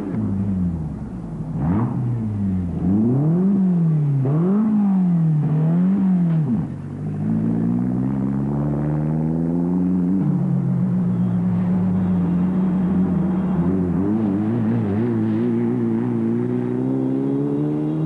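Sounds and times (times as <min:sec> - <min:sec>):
race vehicle engine revving: 0:00.0 - 0:18.0.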